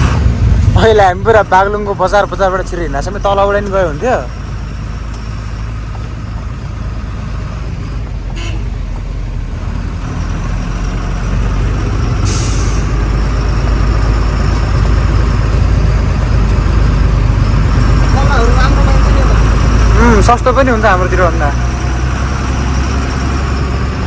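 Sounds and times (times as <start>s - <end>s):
truck diesel engine under load: 0.0s - 24.0s.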